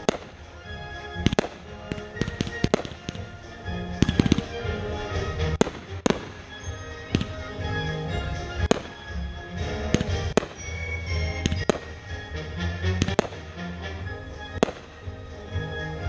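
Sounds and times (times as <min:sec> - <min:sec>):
fireworks bangs: 0:00.0 - 0:07.8, 0:08.5 - 0:15.3
music playing: 0:00.0 - 0:16.0.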